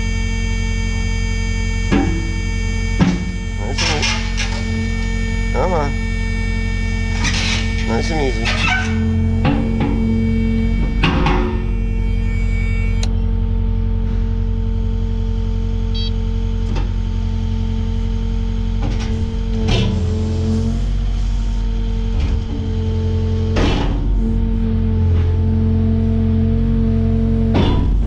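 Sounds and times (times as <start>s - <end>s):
excavator running steadily: 0.0s - 28.0s.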